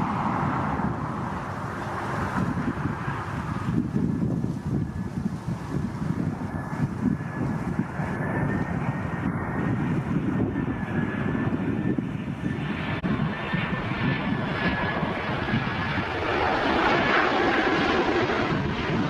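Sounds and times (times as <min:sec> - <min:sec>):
jet engines rumbling with whine: 0:00.0 - 0:19.0.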